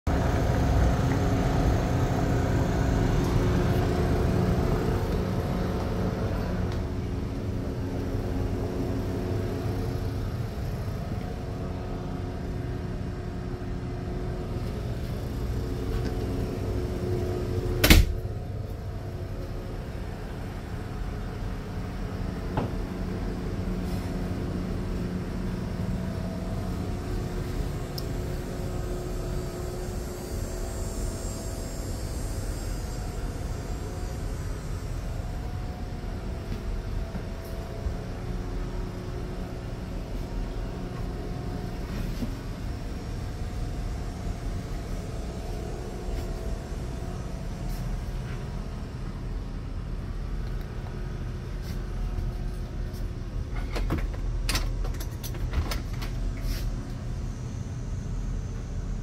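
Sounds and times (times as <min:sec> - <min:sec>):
mechanical hum with low rumble: 0:00.1 - 0:59.0.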